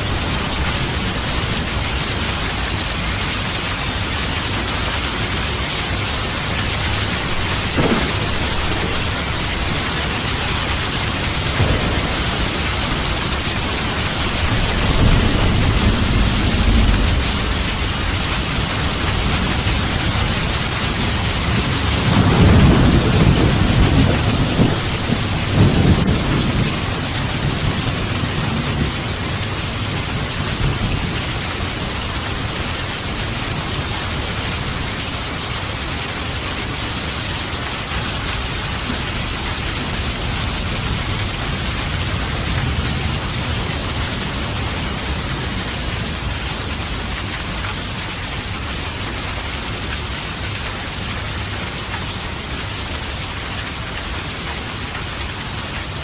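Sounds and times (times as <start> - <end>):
thunder rumbling: 0.0 - 48.9
heavy rain hissing: 0.0 - 56.0.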